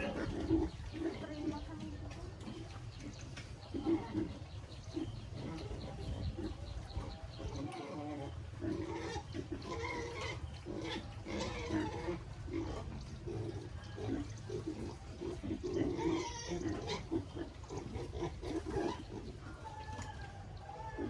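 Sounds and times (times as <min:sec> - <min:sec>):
pig squeals: 0:00.0 - 0:01.4, 0:03.7 - 0:21.0
pigs grunting: 0:00.0 - 0:21.0.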